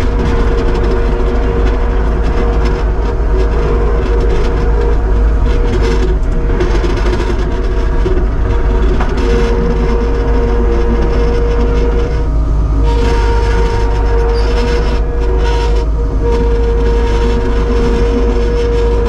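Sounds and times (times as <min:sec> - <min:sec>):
diesel engine droning: 0:00.0 - 0:19.0
high machine whine: 0:00.0 - 0:19.0.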